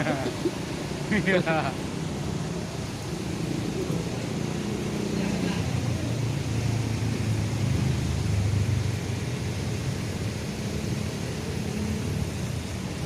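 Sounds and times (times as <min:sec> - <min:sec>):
constant hiss: 0:00.0 - 0:13.0
passing traffic rumble: 0:00.0 - 0:13.0.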